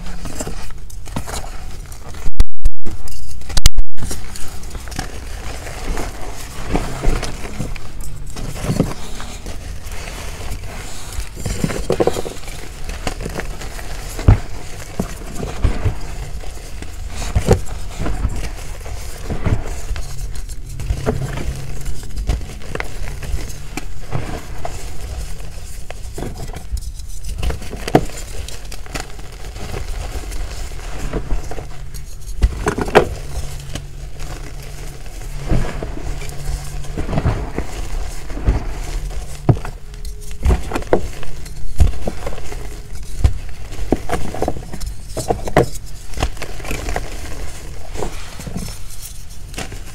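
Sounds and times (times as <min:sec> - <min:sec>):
hands crumbling chalk: 0:03.0 - 0:49.9.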